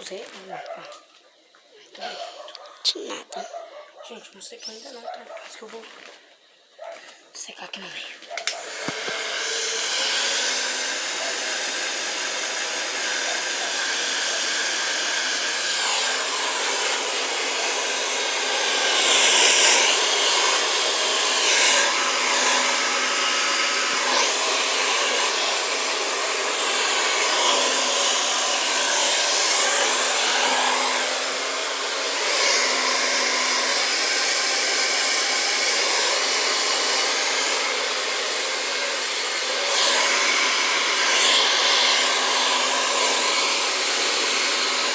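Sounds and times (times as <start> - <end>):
hair dryer blowing: 8.4 - 44.9.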